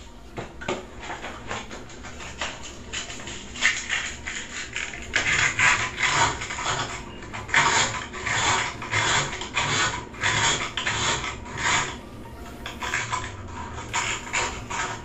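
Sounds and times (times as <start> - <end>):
sandpaper rasping on metal: 1.5 - 12.0, 12.6 - 15.0.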